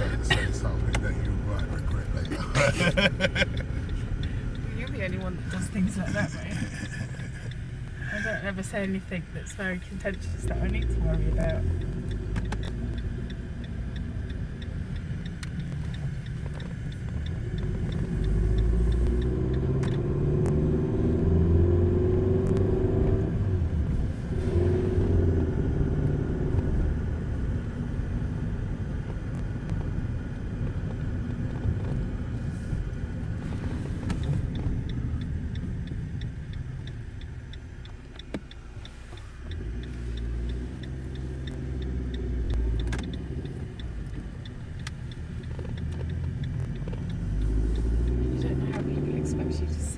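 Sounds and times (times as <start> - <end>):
car engine and road rumble: 0.0 - 49.9
light regular ticking: 0.0 - 49.9.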